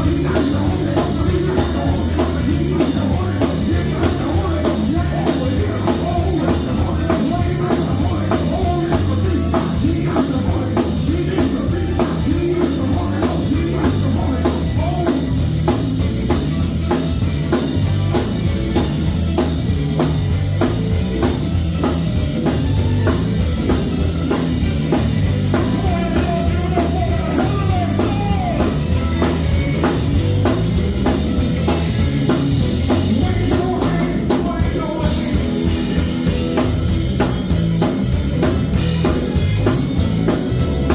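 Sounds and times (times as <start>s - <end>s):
drum kit steady beat: 0.0s - 40.9s
gospel band playing: 0.0s - 40.9s.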